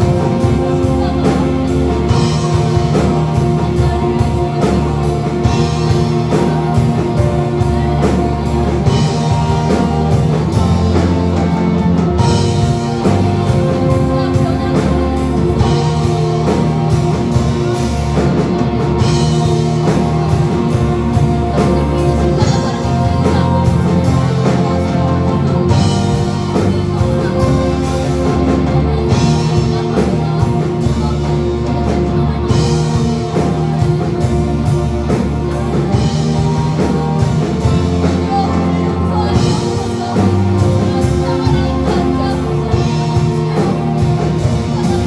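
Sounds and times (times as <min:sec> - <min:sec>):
rock band music: 0:00.0 - 0:45.0.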